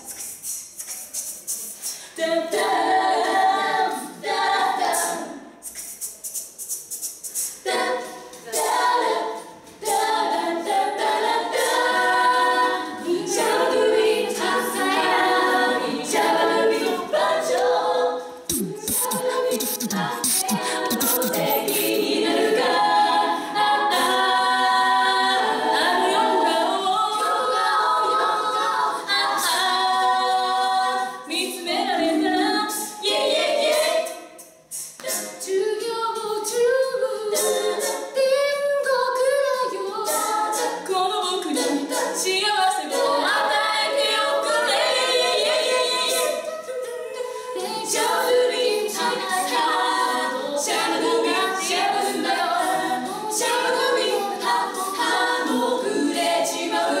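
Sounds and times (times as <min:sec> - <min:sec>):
women singing a cappella: 0:00.0 - 0:57.0.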